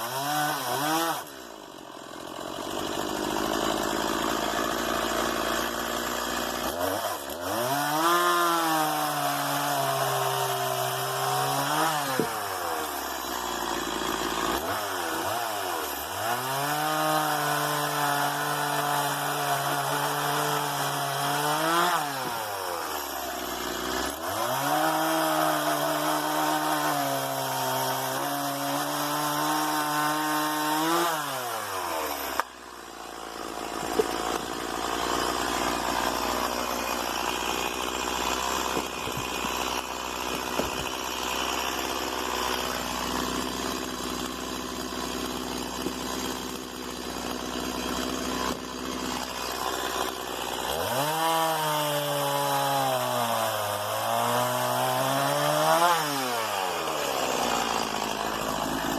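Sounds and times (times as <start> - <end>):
chainsaw revving and idling: 0.0 - 58.9.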